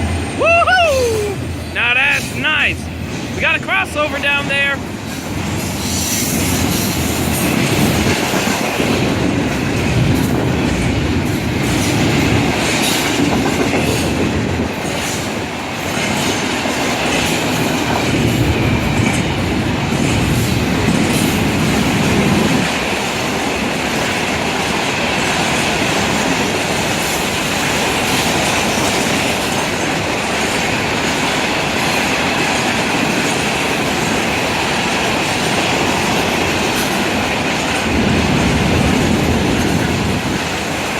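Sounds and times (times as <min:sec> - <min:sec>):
train wheels clattering on rails: 0:01.4 - 0:40.9.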